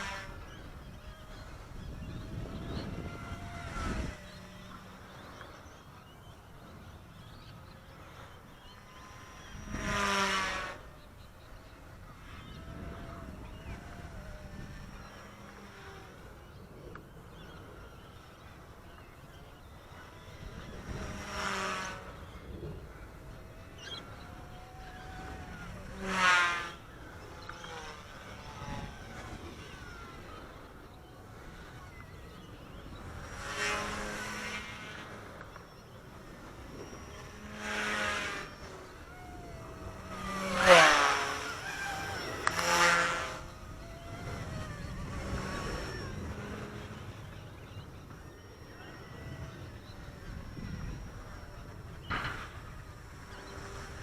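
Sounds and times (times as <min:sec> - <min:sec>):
rc helicopter rotor whining: 0:00.0 - 0:54.0
wind rumble on microphone: 0:00.0 - 0:54.0.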